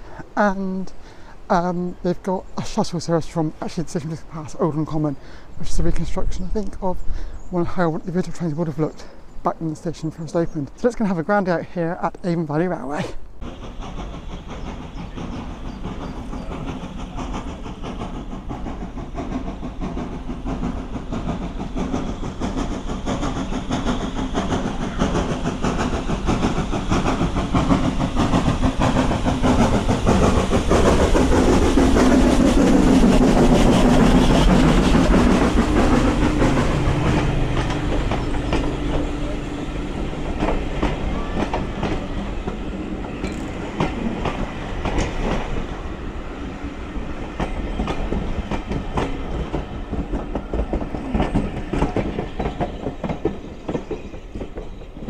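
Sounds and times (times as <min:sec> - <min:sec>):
steam locomotive passing: 0:00.0 - 0:55.0
train coaches rolling by: 0:00.0 - 0:55.0.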